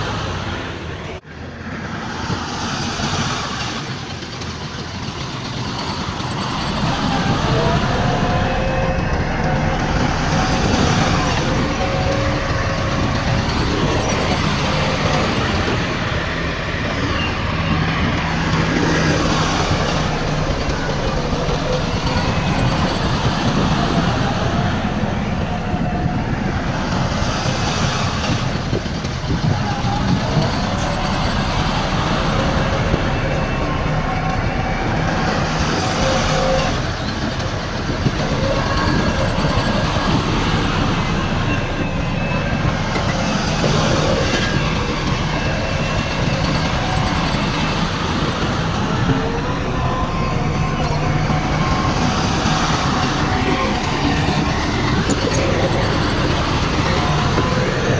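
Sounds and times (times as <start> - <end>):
bulldozer engine running: 0.0 - 57.9
machinery high squeaks: 2.4 - 57.9.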